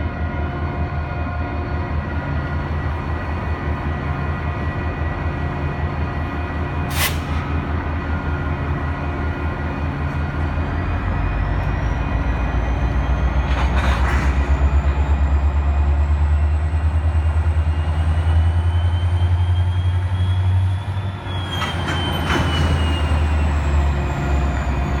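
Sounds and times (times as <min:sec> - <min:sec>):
diesel locomotive engine rumble: 0:00.0 - 0:25.0.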